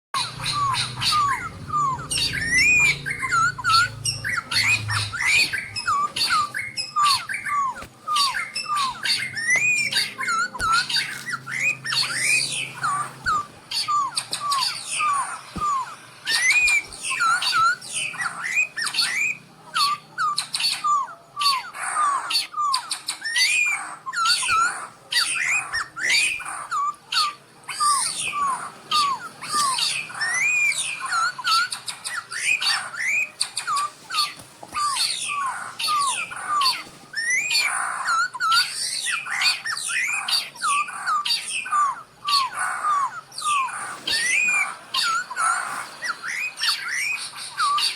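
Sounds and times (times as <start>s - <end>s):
birds chirping and squawking: 0.2s - 47.9s.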